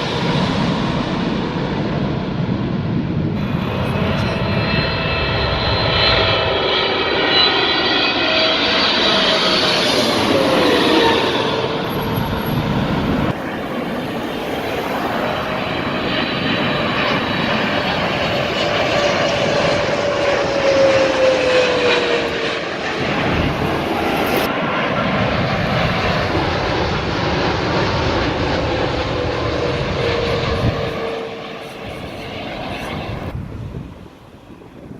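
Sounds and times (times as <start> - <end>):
airliner engines passing: 0.0 - 34.9.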